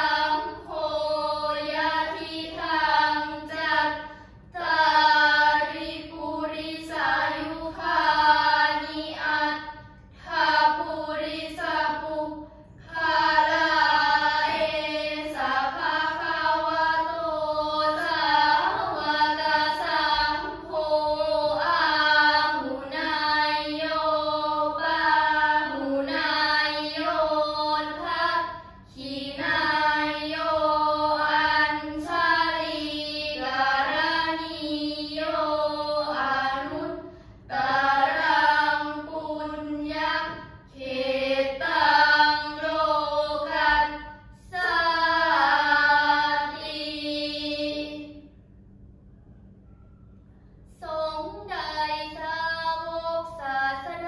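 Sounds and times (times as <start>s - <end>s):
girls chanting prayers: 0.0s - 48.6s, 49.6s - 54.0s.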